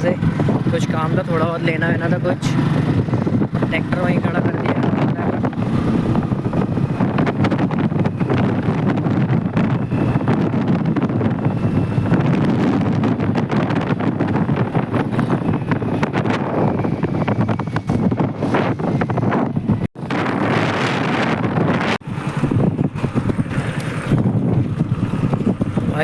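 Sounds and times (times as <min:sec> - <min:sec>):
motorcycle running: 0:00.0 - 0:26.0
road noise: 0:00.0 - 0:26.0
wind buffeting microphone: 0:00.0 - 0:26.0.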